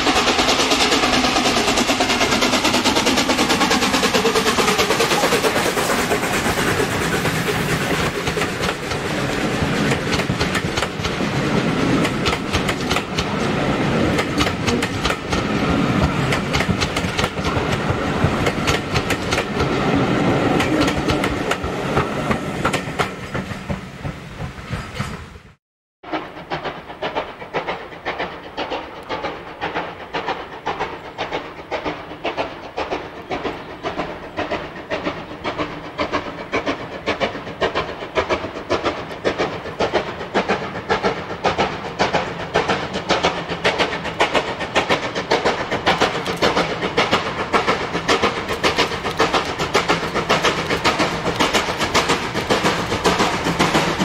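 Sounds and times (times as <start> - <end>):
railway coaches rattling over rail joints: 0.0 - 54.0
steam locomotive exhaust beats: 0.0 - 54.0.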